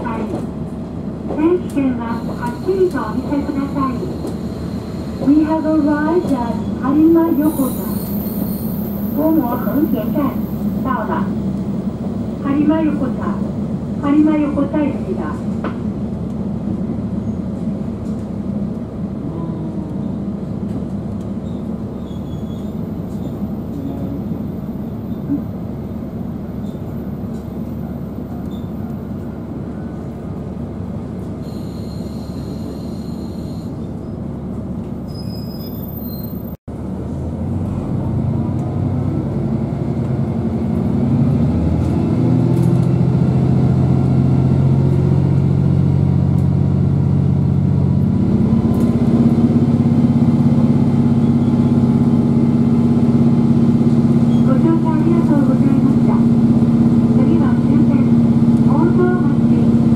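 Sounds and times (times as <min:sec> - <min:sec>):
train wheels rumbling: 0:00.0 - 0:59.9.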